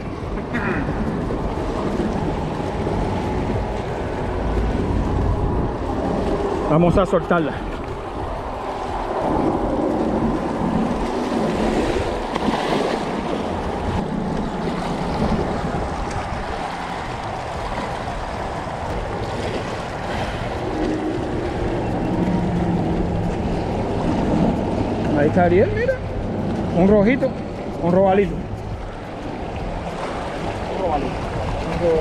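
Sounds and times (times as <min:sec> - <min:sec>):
waves washing against rocks: 0:00.0 - 0:32.0
wind on microphone: 0:00.0 - 0:32.0.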